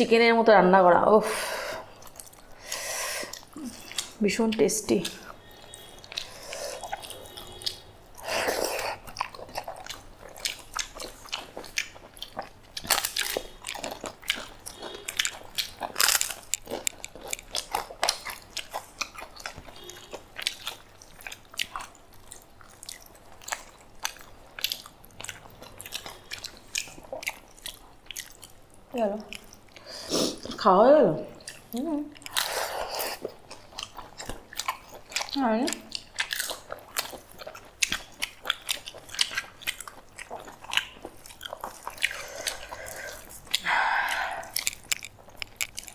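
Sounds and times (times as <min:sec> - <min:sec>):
crunchy chewing and biting: 0:05.0 - 0:28.7, 0:31.4 - 0:45.9.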